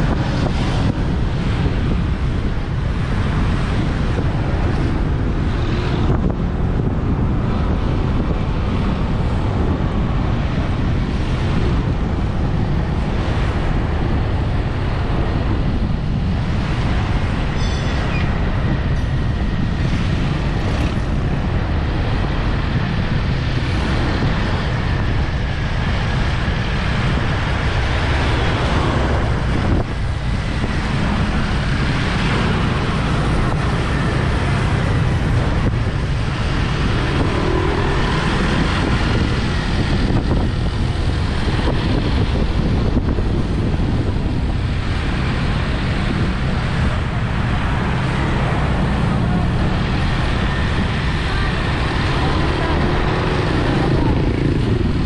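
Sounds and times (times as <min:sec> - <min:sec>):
passing motorbikes and cars: 0:00.0 - 0:55.0
road noise: 0:00.0 - 0:55.0
wind buffeting microphone: 0:00.0 - 0:55.0.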